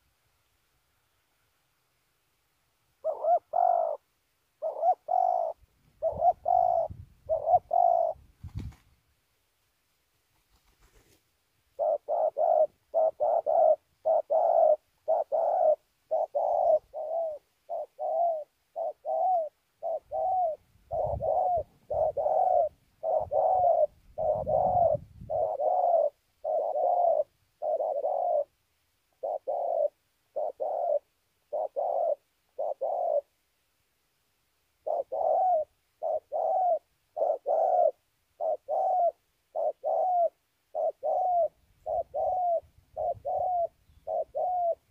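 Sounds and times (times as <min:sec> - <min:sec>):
dove cooing: 0:03.0 - 0:08.4, 0:11.7 - 0:33.4, 0:34.8 - 0:44.9.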